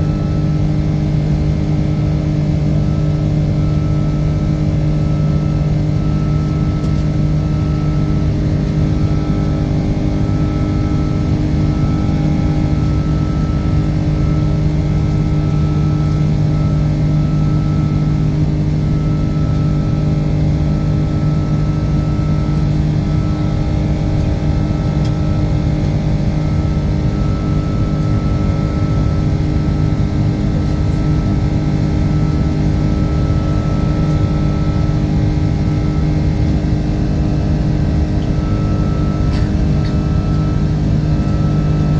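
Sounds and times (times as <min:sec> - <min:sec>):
airplane cabin engine roar: 0:00.0 - 0:41.9.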